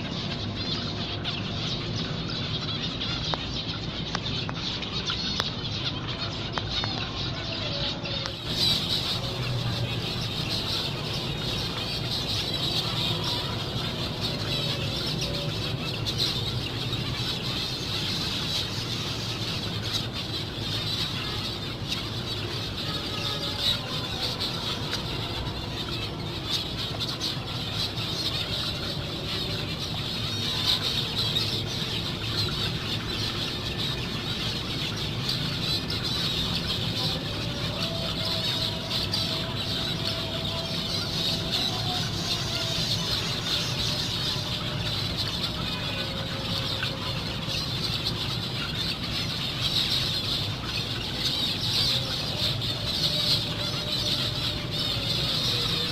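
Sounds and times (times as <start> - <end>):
finches calling: 0.0 - 55.9.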